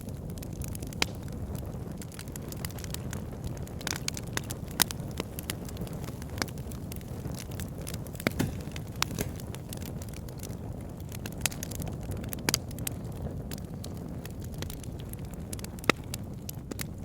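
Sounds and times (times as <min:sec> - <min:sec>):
campfire flame rushing: 0:00.0 - 0:17.0
wood crackling and popping: 0:00.0 - 0:17.0.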